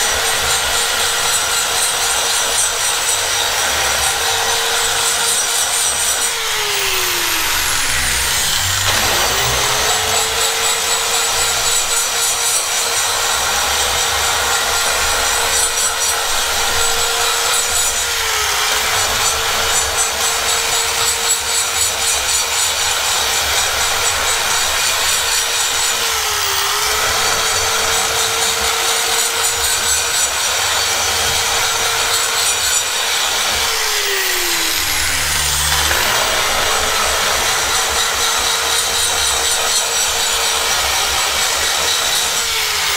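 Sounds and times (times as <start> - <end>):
burr grinding rasp: 0.0 - 42.9
die grinder whining: 0.0 - 42.9.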